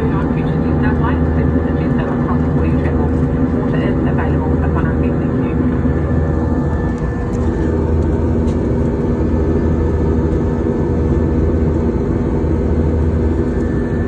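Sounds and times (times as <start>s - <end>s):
jet engine drone: 0.0s - 14.0s
low rumble: 0.0s - 14.0s.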